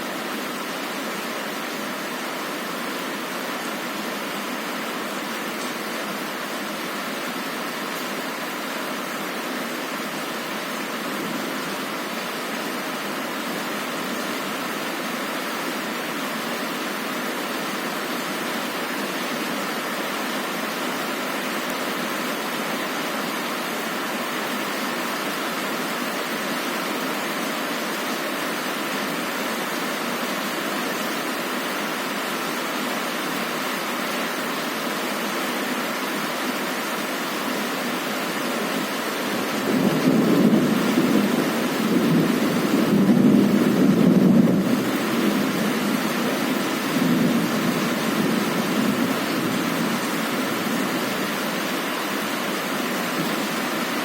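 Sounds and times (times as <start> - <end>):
heavy rain on a window: 0.0 - 54.0.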